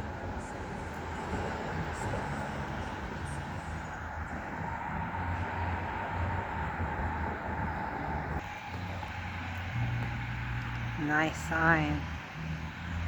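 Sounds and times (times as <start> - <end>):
motor engine rumbling: 0.0 - 13.0.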